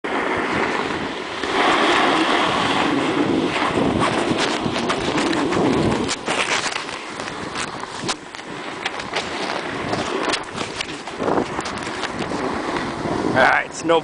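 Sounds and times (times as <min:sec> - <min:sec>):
wind on microphone: 0:00.0 - 0:14.0
snowboard scraping snow: 0:00.1 - 0:13.4.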